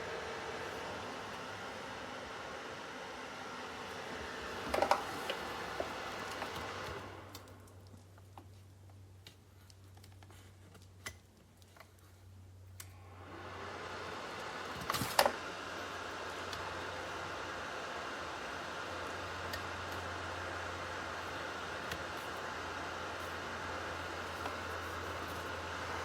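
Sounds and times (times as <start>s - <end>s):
heater fan blowing hiss: 0.0s - 8.0s, 12.3s - 26.0s.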